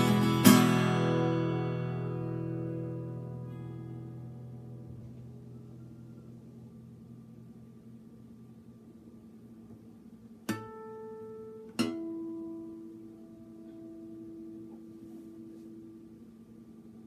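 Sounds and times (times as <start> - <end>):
acoustic guitar notes plucked: 0.0 - 8.2, 9.6 - 16.3.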